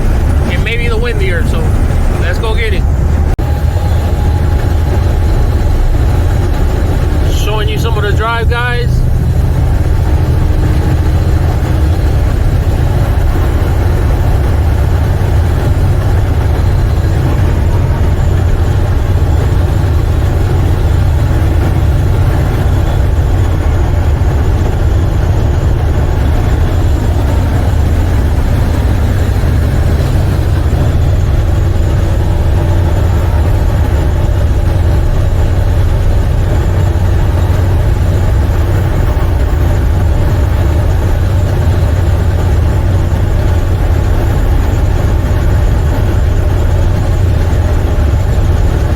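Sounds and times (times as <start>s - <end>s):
diesel truck engine droning: 0.0s - 48.9s
road noise: 0.0s - 48.9s.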